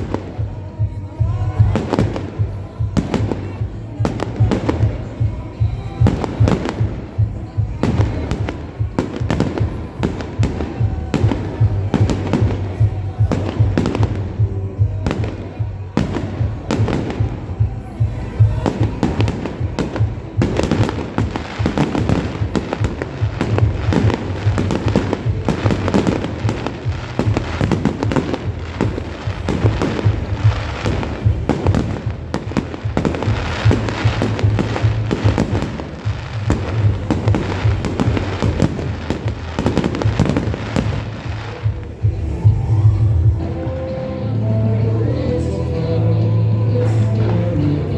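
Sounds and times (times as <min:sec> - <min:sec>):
fireworks bangs and crackling: 0:00.0 - 0:46.1, 0:46.7 - 0:47.9
music playing: 0:00.0 - 0:47.9.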